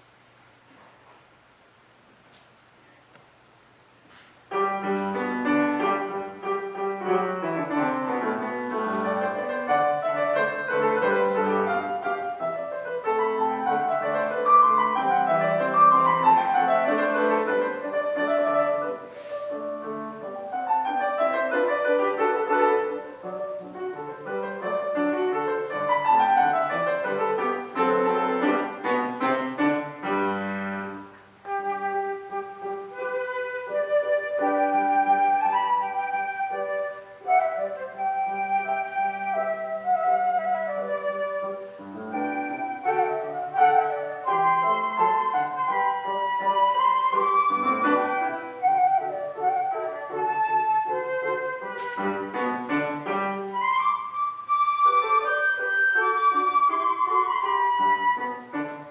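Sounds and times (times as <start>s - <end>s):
piano playing fast runs: 4.5s - 31.2s, 34.0s - 58.9s
solo flute long notes: 4.5s - 58.9s.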